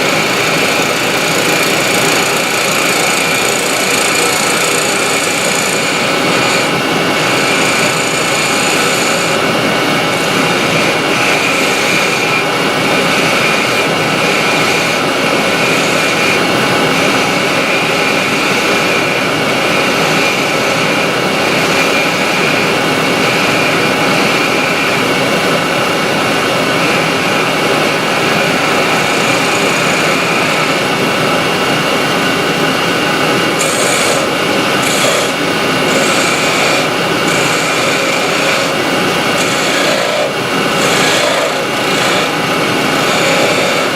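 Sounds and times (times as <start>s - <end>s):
dust extractor and lathe running: 0.0s - 43.9s.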